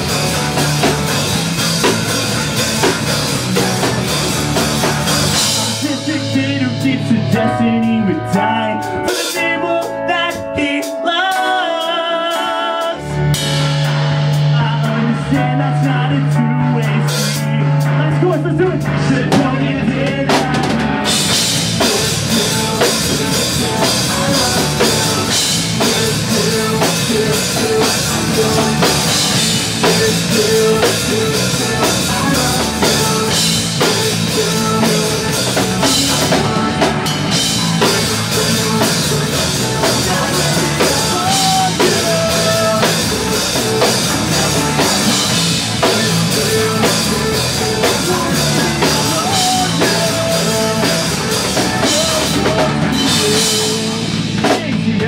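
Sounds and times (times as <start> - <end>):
drum kit: 0.0 - 55.0
pop-punk band playing: 0.0 - 55.0.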